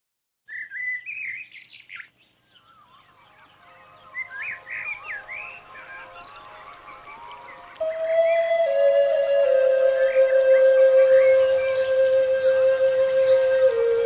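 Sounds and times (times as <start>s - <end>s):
songbirds chirping: 0.5s - 14.0s
faint held musical notes: 2.6s - 14.0s.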